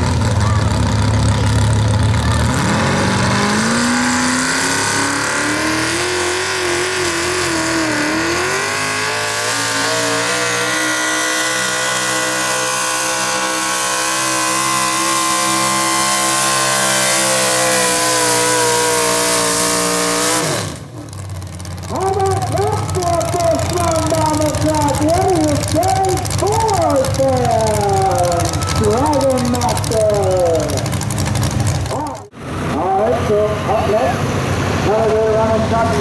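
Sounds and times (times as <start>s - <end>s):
truck engine at full throttle: 0.0s - 36.0s.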